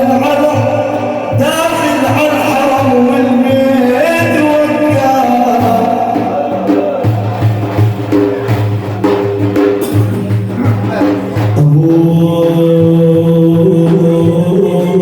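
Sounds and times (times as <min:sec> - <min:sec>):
man singing: 0:00.0 - 0:07.8, 0:10.3 - 0:15.0
hand drums beat: 0:00.0 - 0:15.0.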